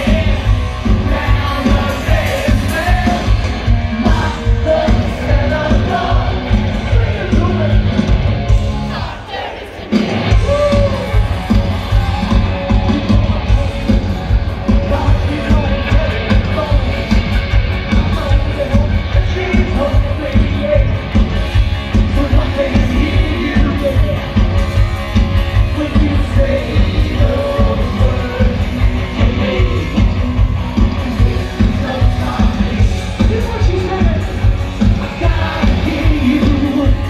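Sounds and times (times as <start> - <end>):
live rock band playing: 0.0 - 9.2, 9.8 - 37.0
singer singing: 0.0 - 24.7, 25.6 - 37.0.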